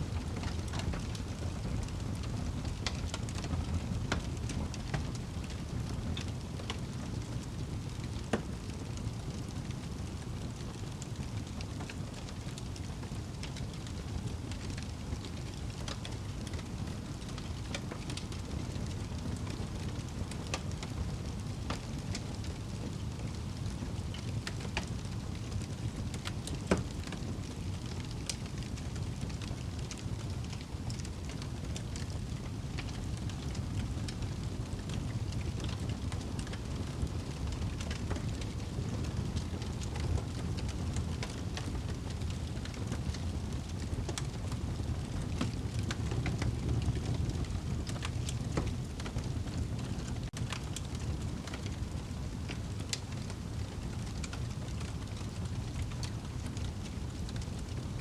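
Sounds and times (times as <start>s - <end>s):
fire crackling and popping: 0.0s - 58.0s
fire rumbling: 0.0s - 58.0s.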